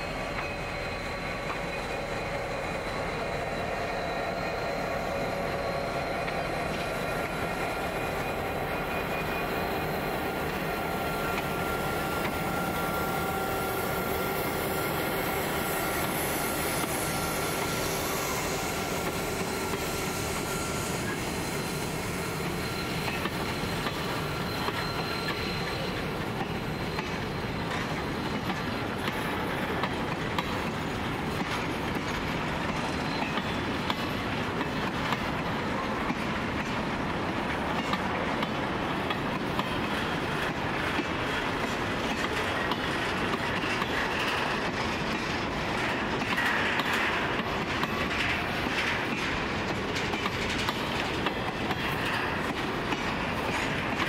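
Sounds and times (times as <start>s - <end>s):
diesel locomotives running: 0.0s - 54.0s.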